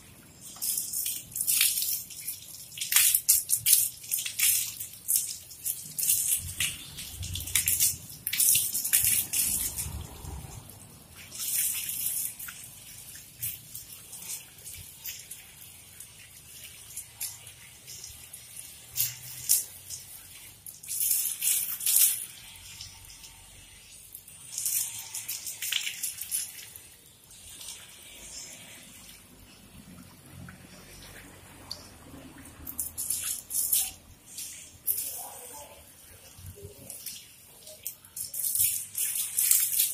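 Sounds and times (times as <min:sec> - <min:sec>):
hose water splashing on tiled floor: 0:00.0 - 0:39.9.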